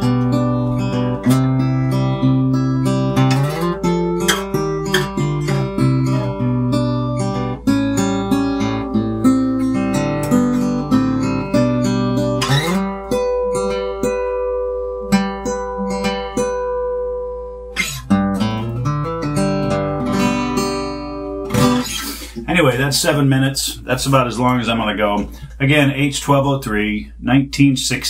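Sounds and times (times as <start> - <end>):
acoustic guitar playing: 0.0 - 27.2.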